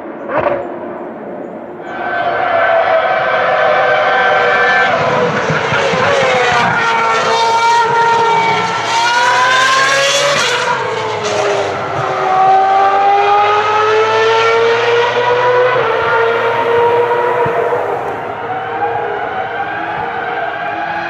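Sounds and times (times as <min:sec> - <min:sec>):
high-revving racing car engine: 0:02.0 - 0:21.0.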